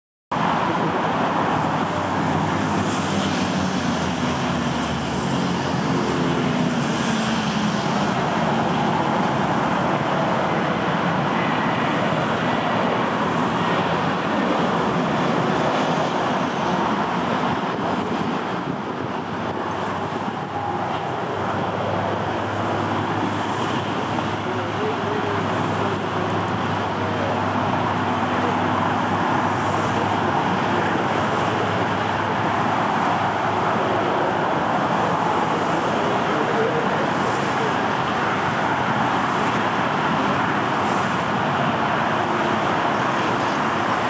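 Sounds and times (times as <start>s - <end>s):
airport noise: 0.3s - 44.0s
tow tractor engine running: 0.4s - 44.0s.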